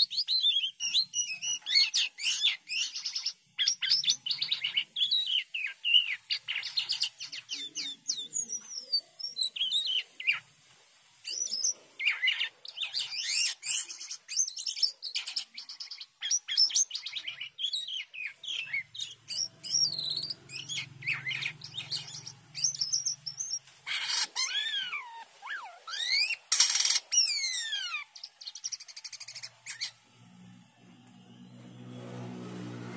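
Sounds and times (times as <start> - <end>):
starling singing: 0.0 - 10.5, 11.2 - 30.2.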